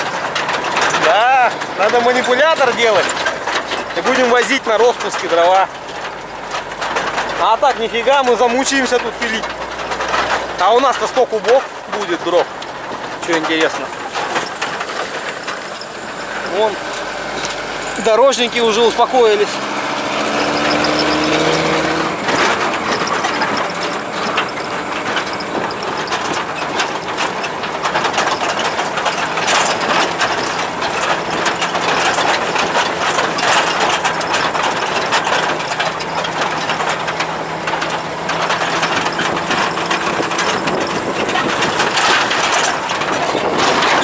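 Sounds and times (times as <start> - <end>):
cab and body rattling: 0.0 - 44.0
truck engine running: 0.0 - 44.0.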